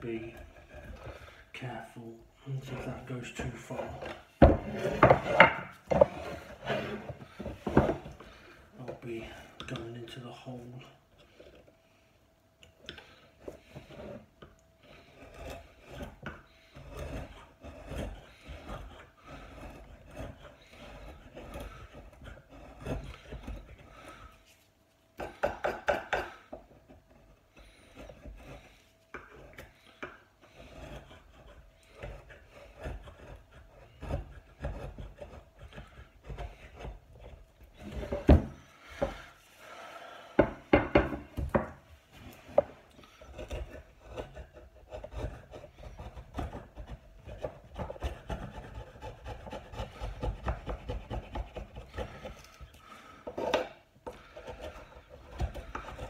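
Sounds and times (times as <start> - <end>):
hand tool scraping wood: 0.0 - 11.6, 12.9 - 56.0.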